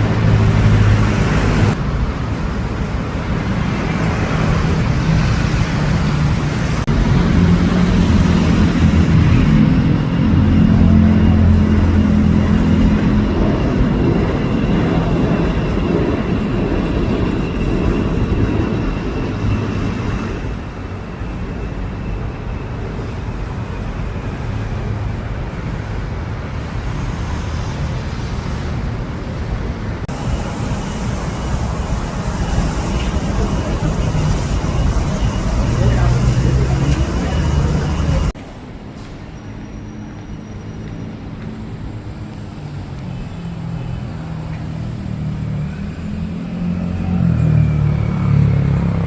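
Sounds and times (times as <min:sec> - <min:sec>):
low engine drone: 0:00.0 - 0:49.0
traffic rumble: 0:00.0 - 0:49.0.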